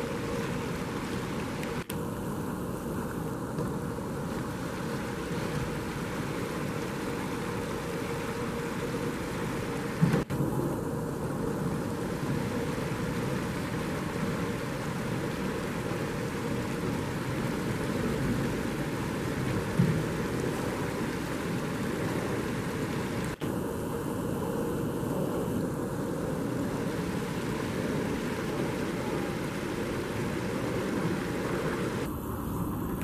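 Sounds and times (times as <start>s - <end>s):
river water rushing over stones: 0.0s - 33.0s.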